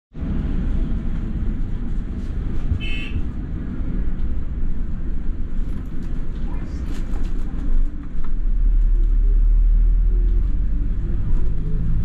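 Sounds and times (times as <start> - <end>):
bus engine rumble: 0.2 - 12.0.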